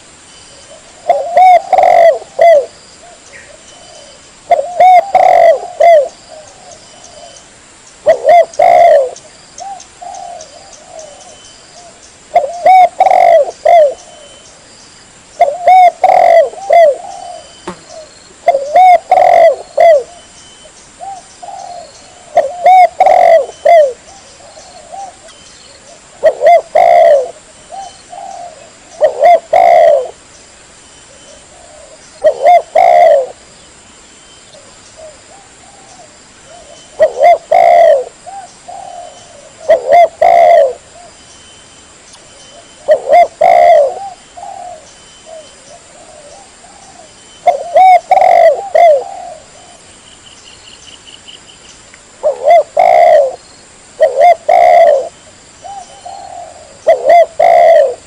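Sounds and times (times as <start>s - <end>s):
dove cooing: 0.6s - 7.4s, 8.0s - 14.4s, 15.4s - 20.3s, 21.0s - 30.2s, 31.1s - 33.4s, 34.5s - 41.2s, 42.5s - 49.9s, 52.2s - 53.4s, 54.0s - 58.0s.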